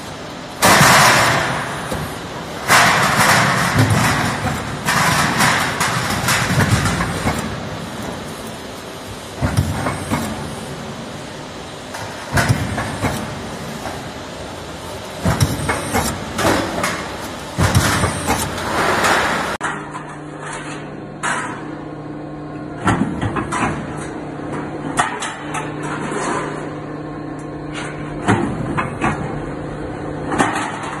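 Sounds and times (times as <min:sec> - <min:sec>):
machine hum: 0:00.0 - 0:30.9.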